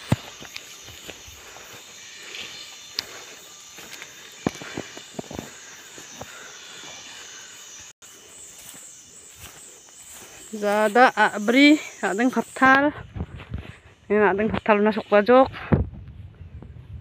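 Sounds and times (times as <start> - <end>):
footsteps on dirt path: 0.0 - 14.0
insects chirring: 0.0 - 16.4.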